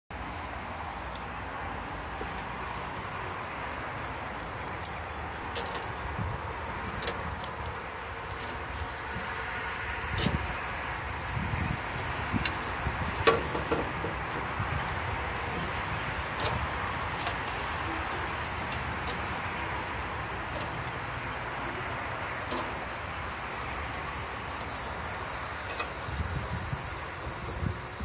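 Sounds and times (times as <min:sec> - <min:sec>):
meat sizzling on grill: 0:02.4 - 0:28.0.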